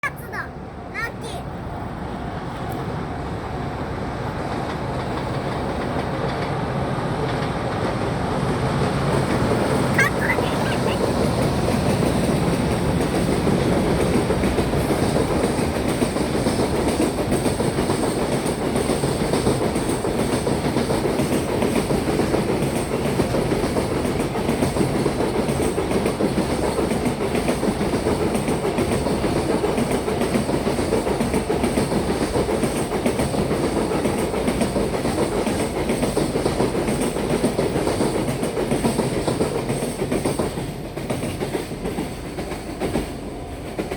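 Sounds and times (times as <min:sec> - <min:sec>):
train wheels clattering over rail joints: 0:04.5 - 0:09.9, 0:11.2 - 0:43.9.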